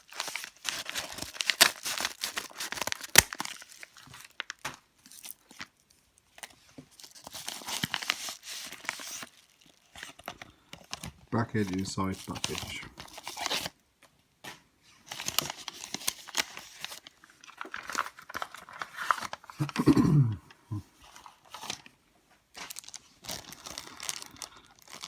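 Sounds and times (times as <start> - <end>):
packaging crinkling and tearing: 0.0 - 13.8, 15.0 - 19.9, 21.0 - 21.9, 22.5 - 25.0.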